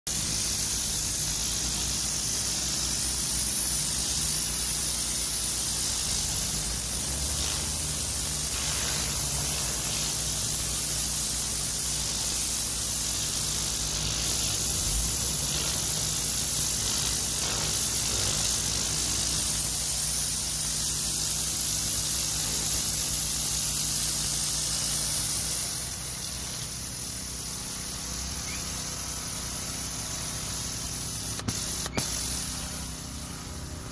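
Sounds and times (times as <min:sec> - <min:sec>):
pressure washer jet hissing: 0:00.1 - 0:33.9.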